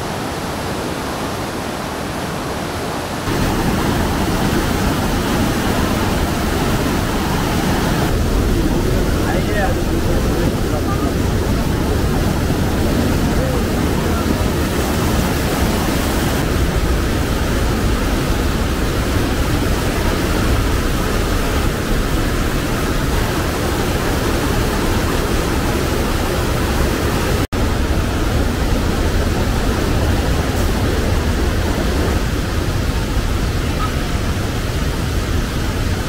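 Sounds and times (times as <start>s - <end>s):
stream rushing loudly: 0.0s - 36.0s.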